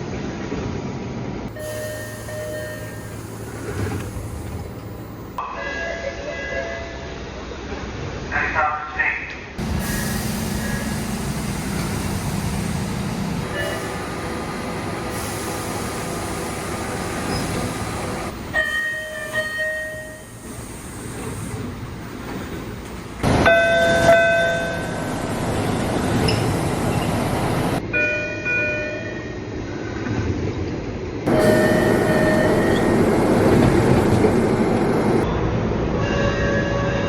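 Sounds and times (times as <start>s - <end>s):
subway cars running: 0.0s - 37.0s.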